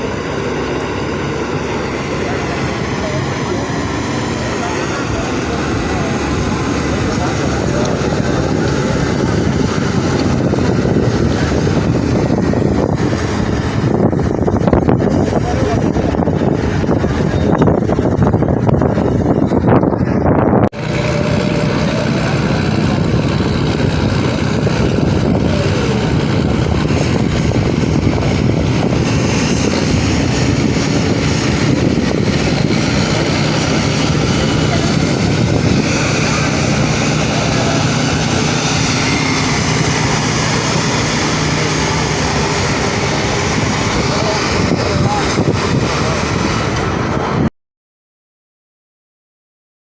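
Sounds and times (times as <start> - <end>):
tractor engine at high revs: 0.0 - 47.5.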